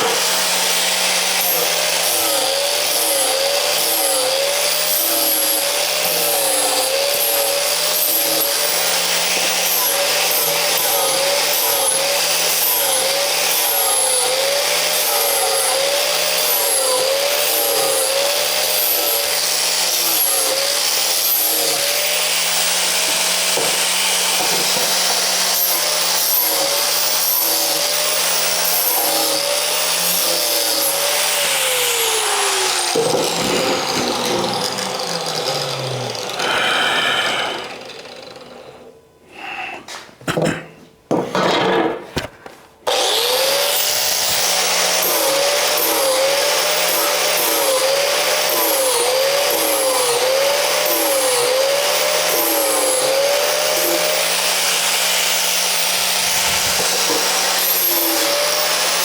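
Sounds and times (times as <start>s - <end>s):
angle grinder grinding steel: 0.0s - 39.0s, 42.9s - 59.0s
grinder winding down: 0.0s - 39.0s, 42.9s - 59.0s.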